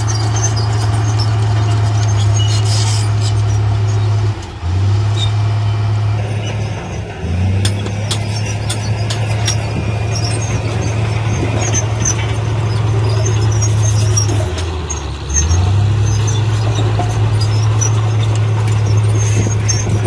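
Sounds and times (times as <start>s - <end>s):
high-pitched squeaks and clicks: 0.0s - 5.4s, 6.2s - 20.0s
heavy diesel engine running: 0.0s - 20.0s.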